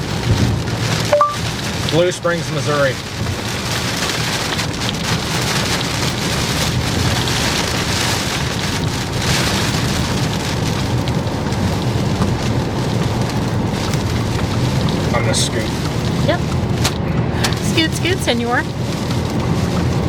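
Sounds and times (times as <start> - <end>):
rain pattering on vehicle: 0.0 - 20.0
road and engine rumble: 0.0 - 20.0.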